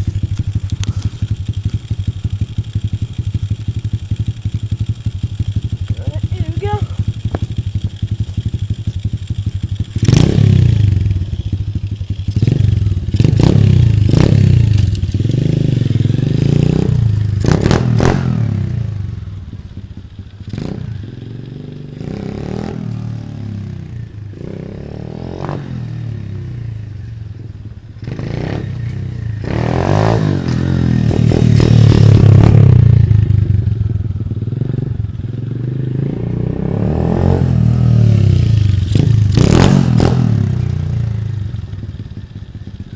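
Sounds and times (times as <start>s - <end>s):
motorbike engine revving: 0.0s - 42.9s.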